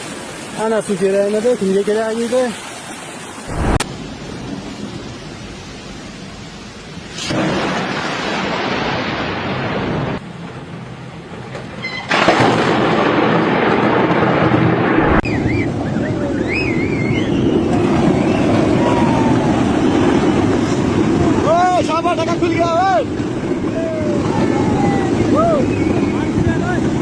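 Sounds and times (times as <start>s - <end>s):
heavy rain: 0.0s - 27.0s
thunder rumbling: 3.4s - 11.5s, 12.1s - 27.0s.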